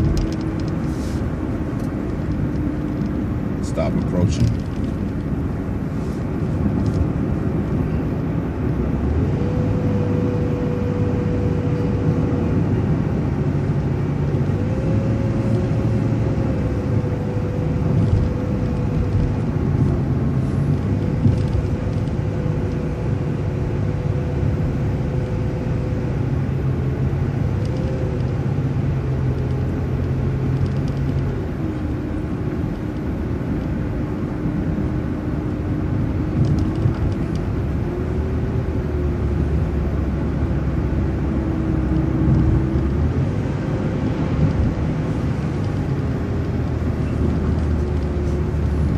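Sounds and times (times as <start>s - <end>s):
bus engine droning: 0.0s - 48.9s.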